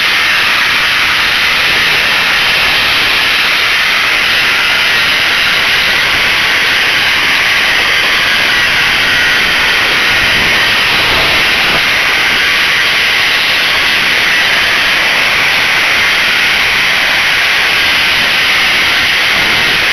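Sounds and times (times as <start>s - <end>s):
dust extraction hiss: 0.0s - 19.9s
power tool raking mortar: 0.0s - 19.9s.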